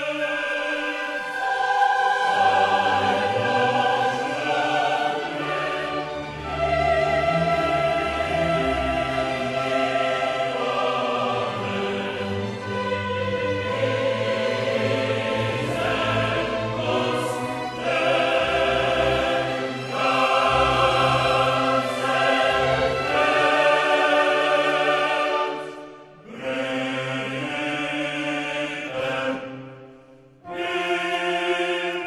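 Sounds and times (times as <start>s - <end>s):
choir singing with orchestra: 0.0s - 32.0s.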